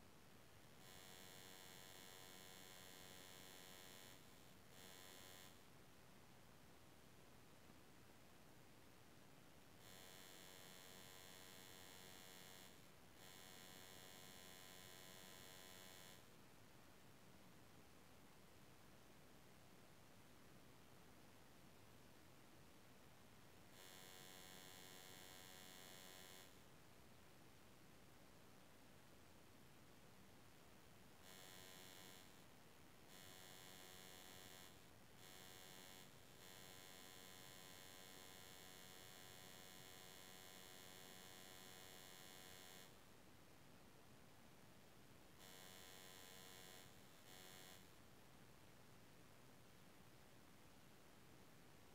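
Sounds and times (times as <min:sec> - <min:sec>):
faint electrical buzz: 0:00.0 - 0:51.9.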